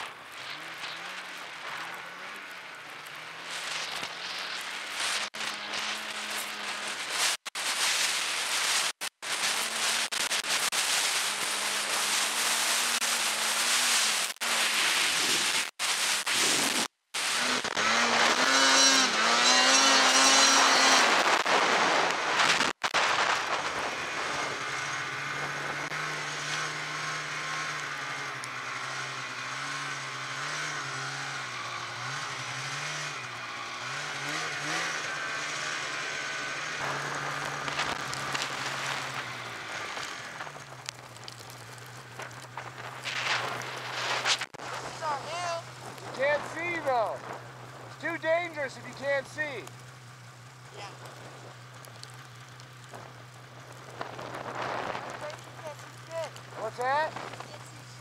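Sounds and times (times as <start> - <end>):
snowmobile engine running hard: 0.0 - 58.0
wind and snow spray rushing: 3.2 - 27.2, 31.6 - 58.0.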